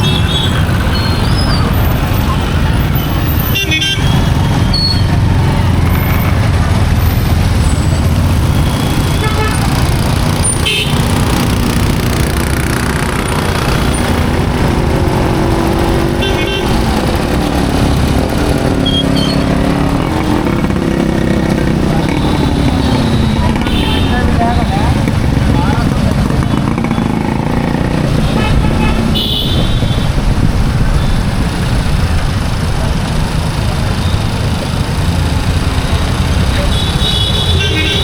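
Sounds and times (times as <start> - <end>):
highway traffic din: 0.0 - 38.0
vehicle engine humming: 0.0 - 38.0.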